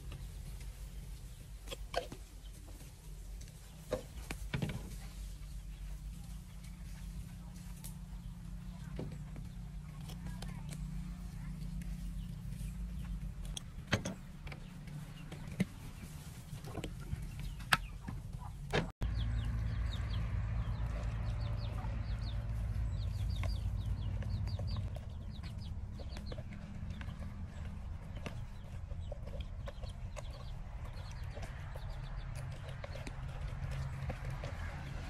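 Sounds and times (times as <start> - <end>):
chickens clucking: 0.0 - 35.0.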